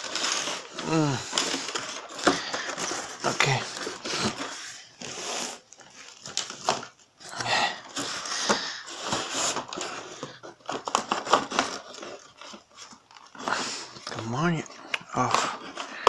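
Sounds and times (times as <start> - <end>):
cardboard box rustling: 0.0 - 15.9.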